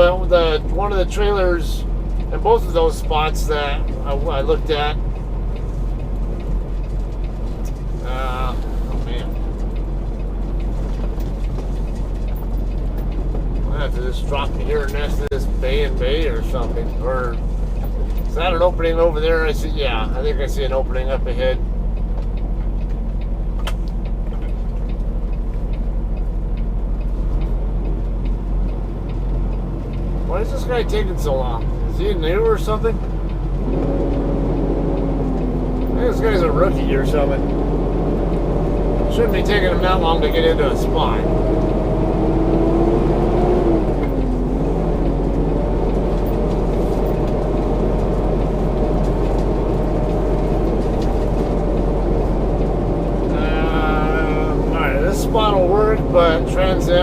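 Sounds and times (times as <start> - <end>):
diesel truck engine running: 0.0 - 57.0
light regular ticking: 0.3 - 57.0.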